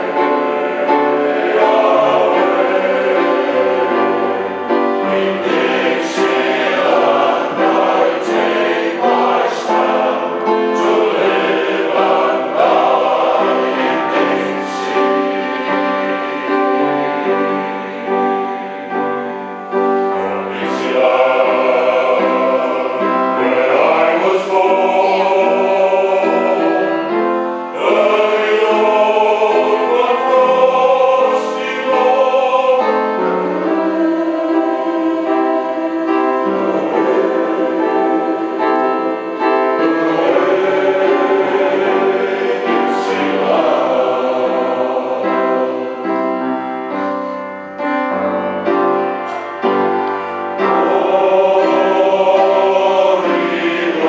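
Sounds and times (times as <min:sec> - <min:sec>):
men's choir singing in harmony: 0:00.0 - 0:54.0
upright piano: 0:00.0 - 0:54.0.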